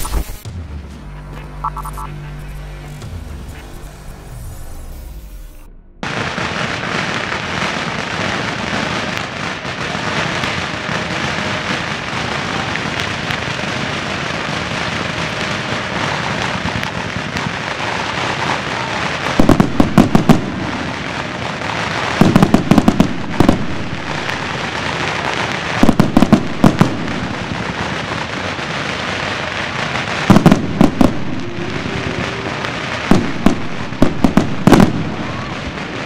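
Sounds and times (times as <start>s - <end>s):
firecrackers crackling: 0.0s - 0.6s, 6.0s - 36.0s
loud rapid firework bangs: 6.0s - 36.0s.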